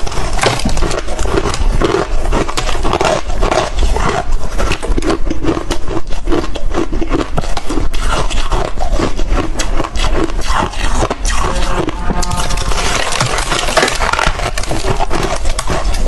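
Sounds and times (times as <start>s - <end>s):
chewing crunchy frost: 0.0s - 16.0s.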